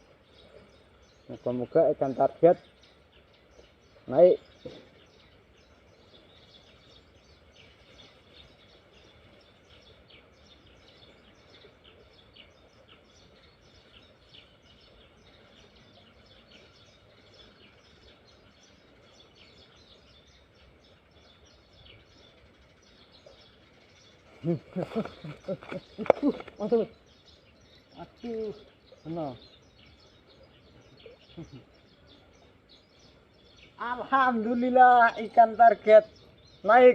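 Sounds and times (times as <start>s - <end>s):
soft steady hiss: 0.0s - 36.9s.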